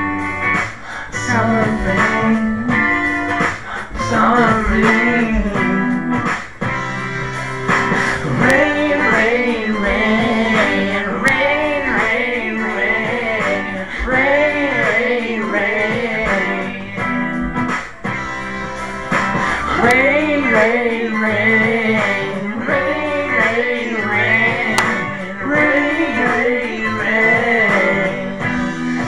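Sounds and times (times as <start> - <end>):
guitar pop instrumental: 0.0 - 29.0.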